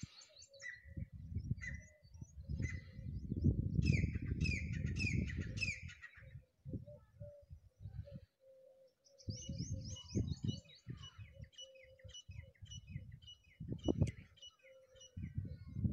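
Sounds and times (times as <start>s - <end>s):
wind rumbling on microphone: 0.0s - 8.3s, 9.2s - 14.4s, 15.1s - 15.9s
birds chirping: 0.0s - 15.9s.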